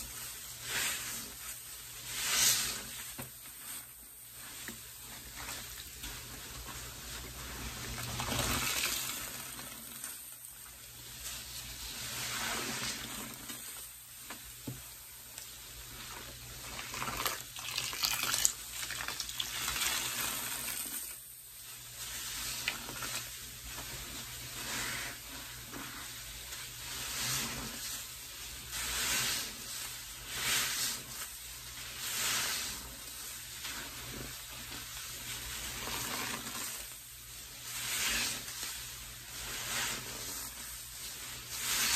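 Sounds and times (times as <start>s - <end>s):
sponges squishing in suds: 0.0s - 41.9s.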